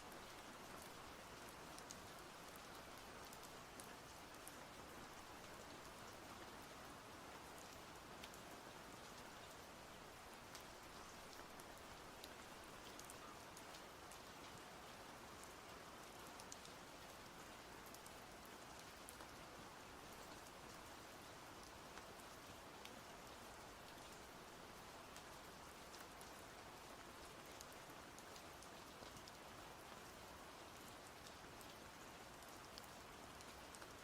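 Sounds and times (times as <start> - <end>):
faint steady rain: 0.0 - 34.0.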